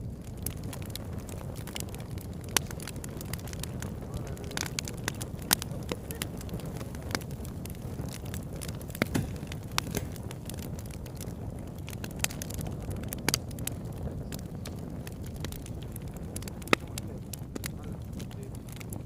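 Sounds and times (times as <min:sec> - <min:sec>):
burning wood crackling and popping: 0:00.0 - 0:19.0
campfire flames rumbling: 0:00.0 - 0:19.0.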